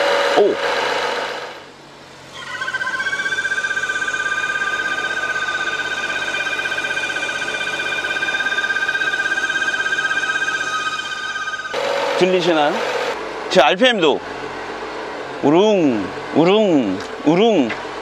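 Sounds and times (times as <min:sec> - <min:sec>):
engine idling with fluttering whistle: 0:00.0 - 0:16.9.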